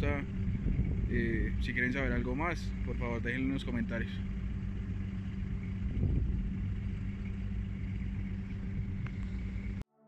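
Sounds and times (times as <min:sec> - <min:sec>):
car engine running: 0:00.0 - 0:09.8.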